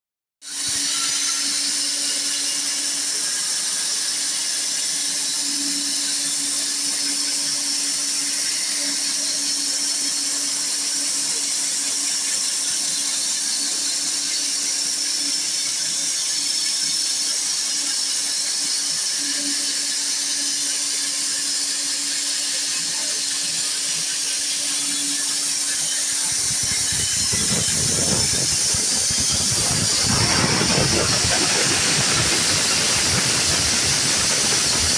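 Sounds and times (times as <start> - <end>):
band sawmill whine and hum: 0.5 - 34.9.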